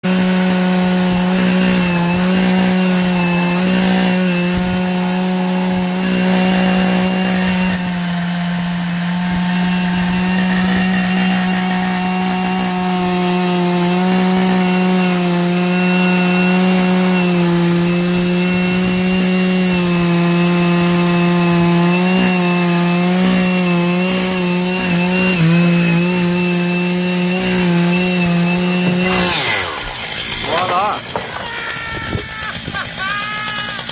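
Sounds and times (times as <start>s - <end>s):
chainsaw cutting log: 0.0s - 33.9s.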